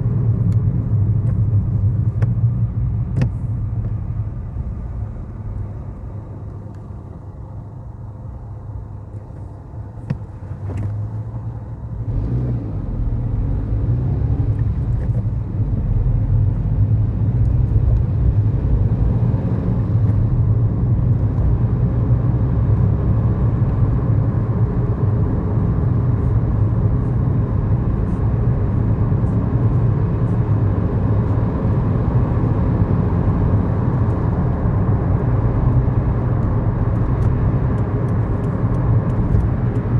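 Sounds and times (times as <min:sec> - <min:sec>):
car engine while driving: 0:00.0 - 0:39.9.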